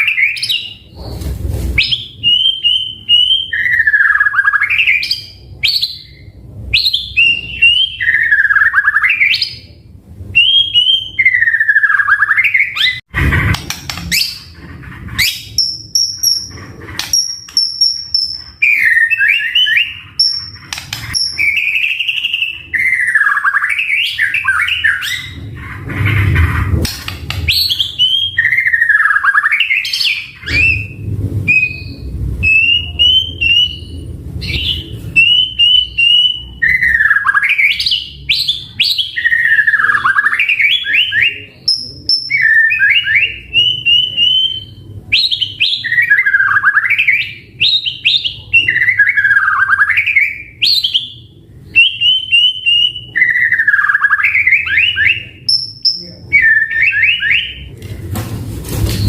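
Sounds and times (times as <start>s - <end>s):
songbird singing loudly: 1.8s - 9.7s, 10.4s - 13.0s, 15.2s - 25.5s, 27.4s - 57.7s.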